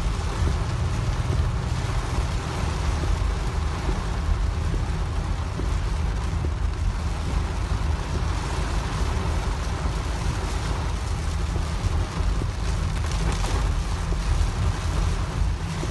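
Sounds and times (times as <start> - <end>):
heavy rain on car roof: 0.0 - 15.9
tyre and wind noise: 0.0 - 15.9.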